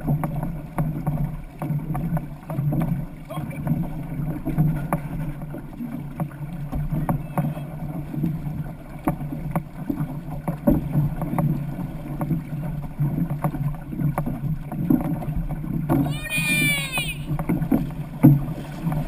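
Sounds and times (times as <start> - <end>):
paddle strokes splashing: 0.0 - 19.0
water rushing past hull: 0.0 - 19.0.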